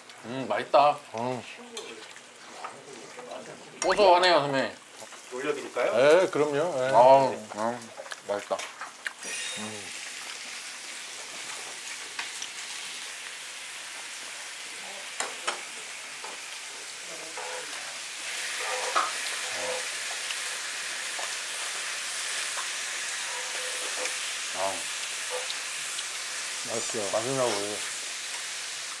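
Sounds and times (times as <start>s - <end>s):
meat sizzling on grill pan: 0.0s - 29.0s.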